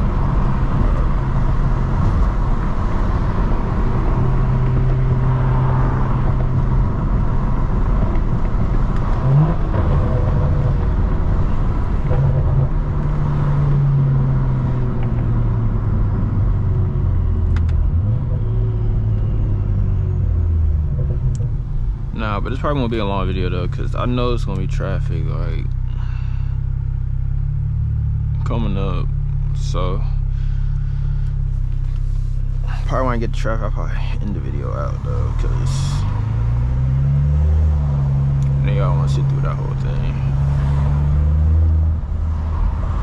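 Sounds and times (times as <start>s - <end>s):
car exhaust droning: 0.0s - 43.0s.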